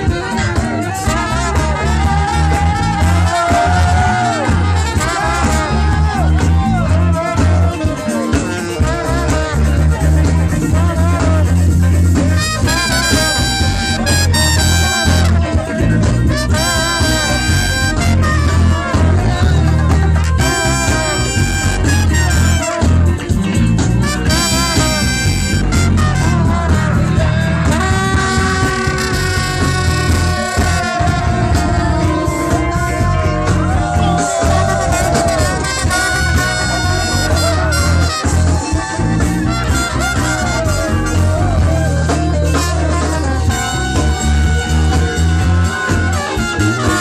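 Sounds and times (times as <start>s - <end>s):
electric guitar: 0.0s - 47.0s
heavy bass line: 0.0s - 47.0s
horn section holding notes: 0.0s - 47.0s
low-end groove: 0.0s - 47.0s
saxophone: 0.0s - 47.0s
trumpet: 0.0s - 47.0s.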